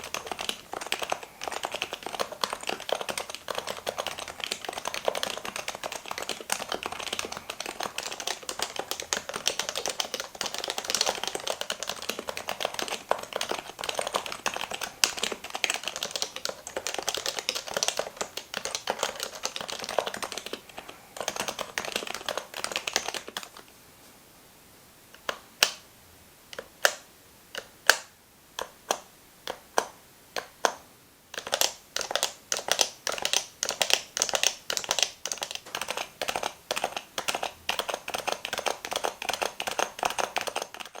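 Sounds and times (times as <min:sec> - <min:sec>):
keyboard typing: 0:00.0 - 0:23.6, 0:27.6 - 0:41.0.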